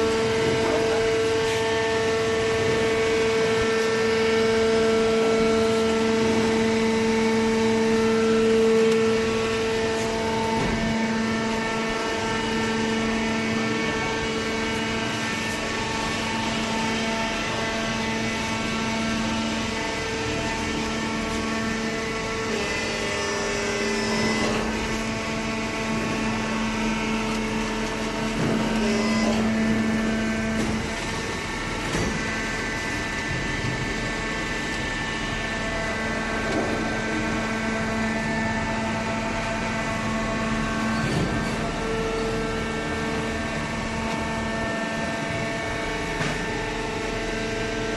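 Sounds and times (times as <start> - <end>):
baler machine hum: 0.0 - 47.9.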